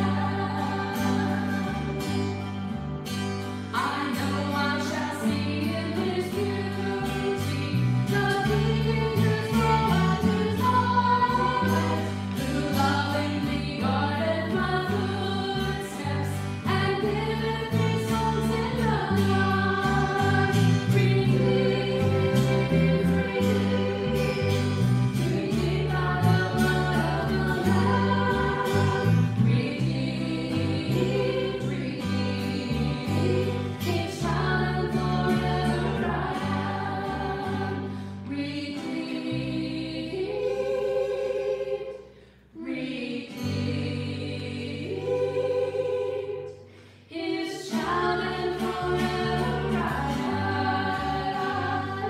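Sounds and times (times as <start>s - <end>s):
group singing a hymn: 0.0s - 2.9s, 3.5s - 52.0s
strummed acoustic guitars: 0.0s - 45.7s, 46.5s - 52.0s.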